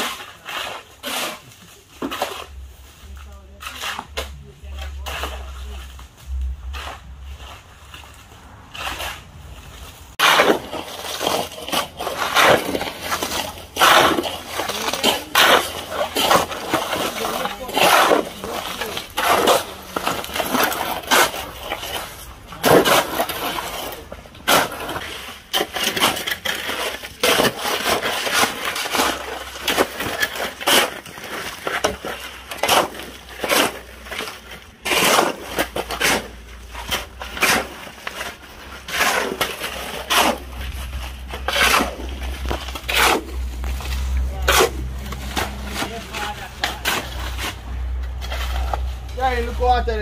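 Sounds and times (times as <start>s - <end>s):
shovels scraping concrete mix: 0.0s - 50.0s.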